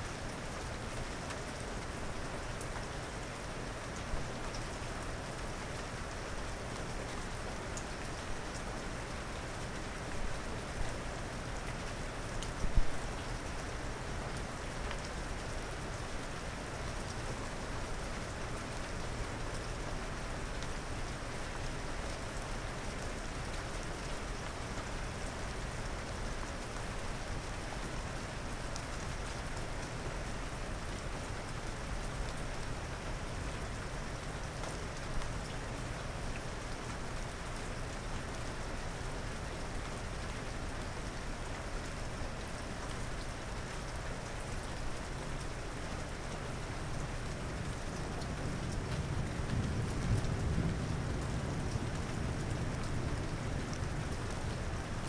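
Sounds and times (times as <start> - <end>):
steady rain falling: 0.0 - 55.0
louder raindrops: 0.2 - 55.0.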